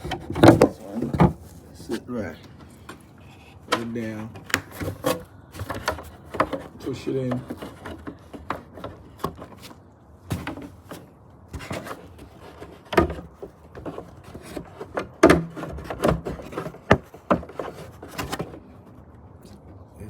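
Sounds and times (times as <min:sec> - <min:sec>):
engine cover clunks and knocks: 0:00.0 - 0:01.5, 0:03.7 - 0:18.6.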